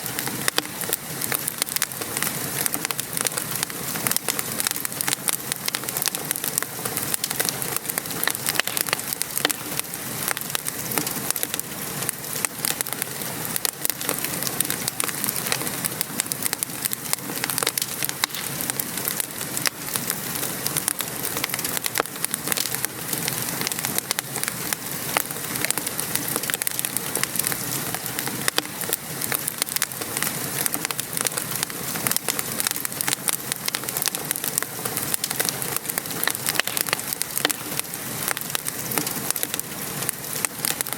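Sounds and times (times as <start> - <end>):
rain pattering: 0.0 - 40.9
wood fire crackling: 0.0 - 40.9.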